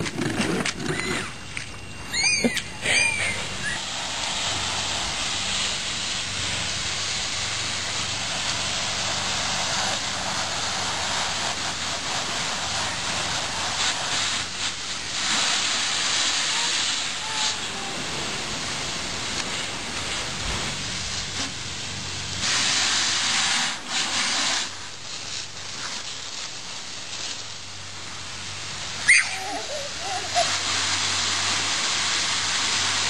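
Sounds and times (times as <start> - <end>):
garden hose water hissing: 0.0 - 33.0.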